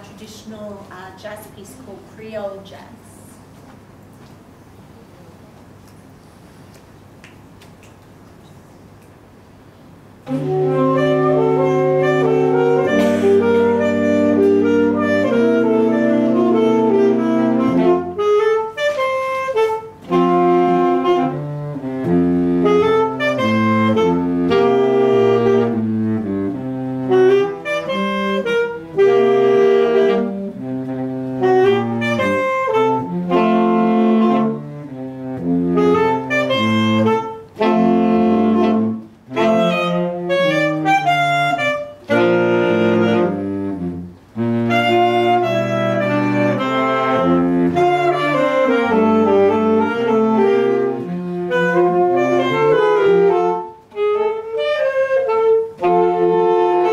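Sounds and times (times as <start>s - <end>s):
saxophone quartet playing jazz: 9.8s - 56.9s.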